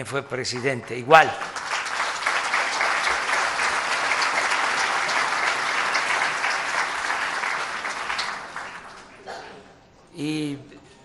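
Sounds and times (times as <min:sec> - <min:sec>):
audience applauding: 0:00.5 - 0:09.3.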